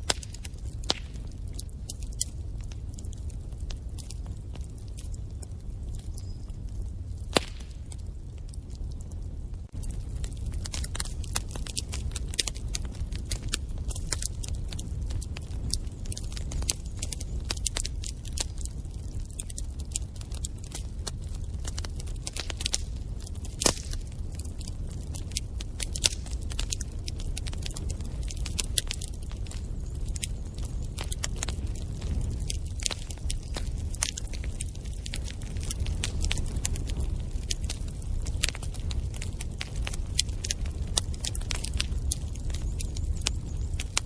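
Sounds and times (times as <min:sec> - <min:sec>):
wood fire crackling and snapping: 0:00.0 - 0:44.0.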